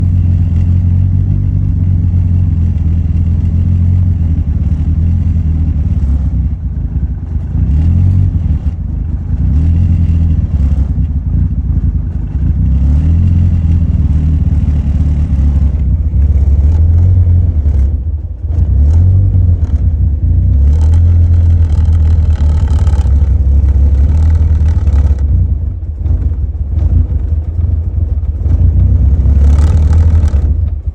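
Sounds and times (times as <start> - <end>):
car engine low drone: 0.0 - 30.9.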